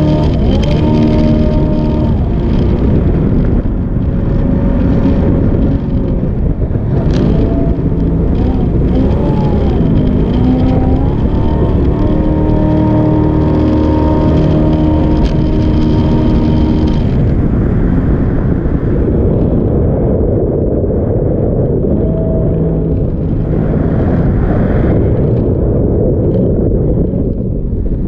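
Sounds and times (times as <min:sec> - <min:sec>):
jet boat engine running hard: 0:00.0 - 0:28.0.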